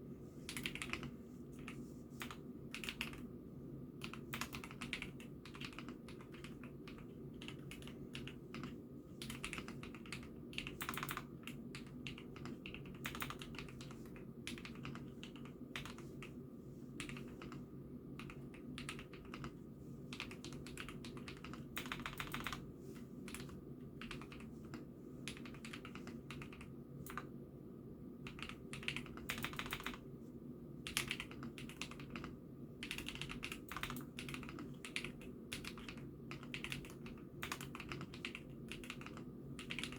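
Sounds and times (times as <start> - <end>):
steady low hum: 0.0 - 39.9
mechanical keyboard typing: 0.5 - 3.2, 4.0 - 16.3, 17.0 - 17.6, 18.2 - 22.6, 23.3 - 27.3, 28.2 - 30.0, 30.8 - 39.9.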